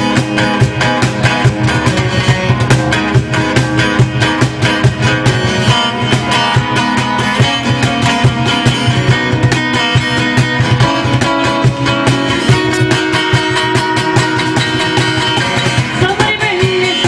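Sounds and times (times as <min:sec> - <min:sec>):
acoustic guitars strumming: 0:00.0 - 0:17.0
cajon beating rhythm: 0:00.0 - 0:17.0.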